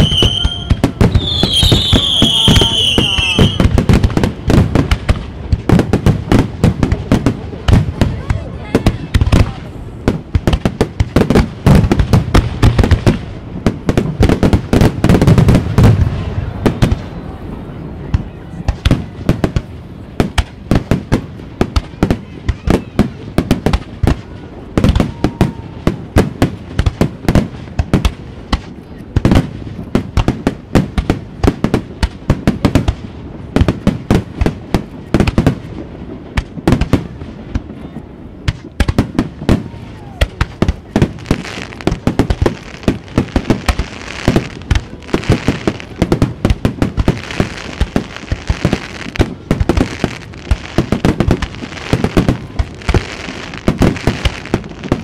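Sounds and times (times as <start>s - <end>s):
dense fireworks crackling: 0.0s - 55.0s
fireworks bursting: 0.0s - 55.0s.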